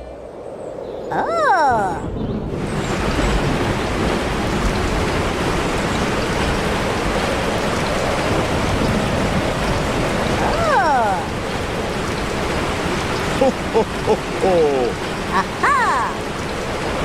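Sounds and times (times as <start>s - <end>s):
steady rushing noise: 1.8s - 17.0s.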